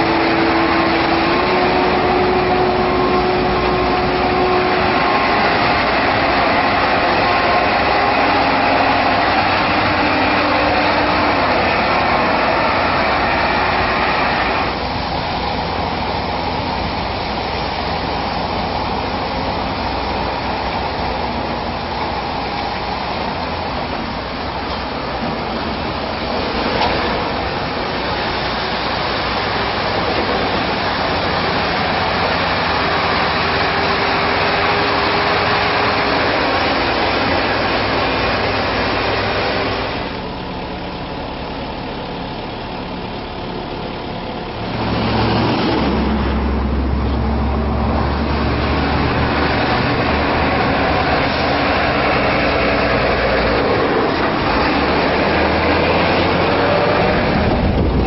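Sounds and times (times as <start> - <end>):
dump truck diesel engine under load: 0.0 - 58.0
road and tyre noise: 0.0 - 58.0.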